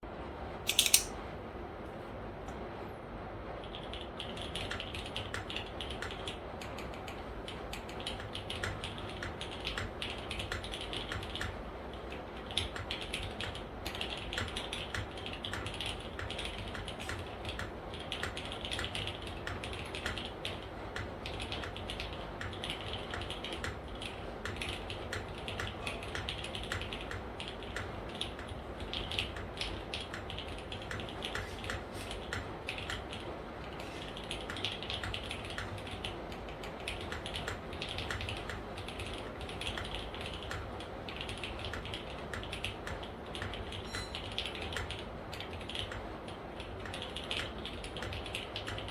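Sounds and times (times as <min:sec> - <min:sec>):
mechanical keyboard typing: 0:00.7 - 0:01.1, 0:03.6 - 0:48.9.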